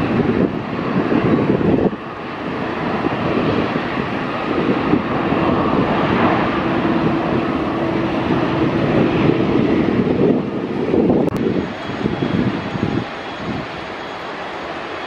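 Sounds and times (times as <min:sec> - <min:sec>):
jet engines of airliner landing: 0:00.0 - 0:15.0.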